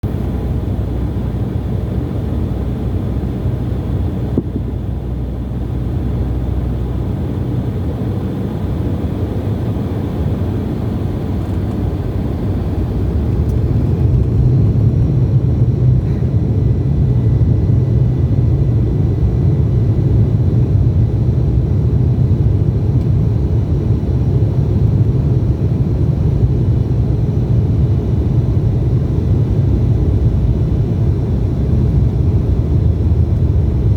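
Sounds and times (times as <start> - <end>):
jet engines rumbling in cabin: 0.0 - 33.9.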